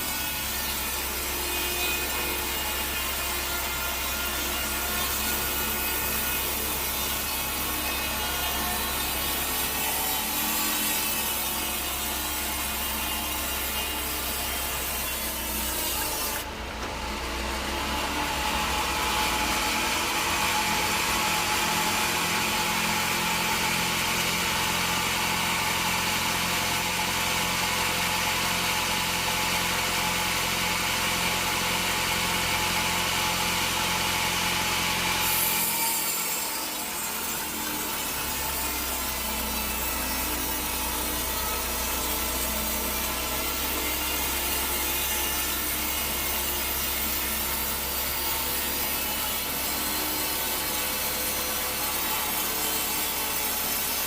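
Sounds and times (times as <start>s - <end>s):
band saw cutting through log: 0.0s - 54.0s.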